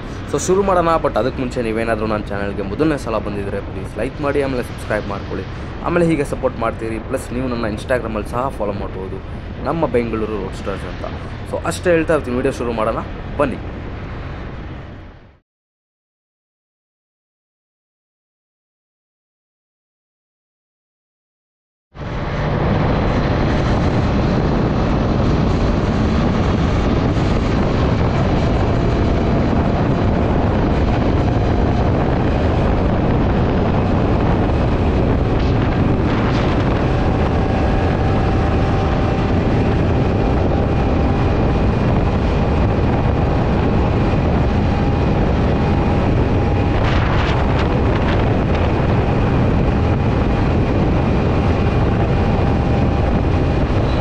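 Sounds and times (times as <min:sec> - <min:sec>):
wind rushing on microphone: 0:00.0 - 0:15.4, 0:22.0 - 0:54.0.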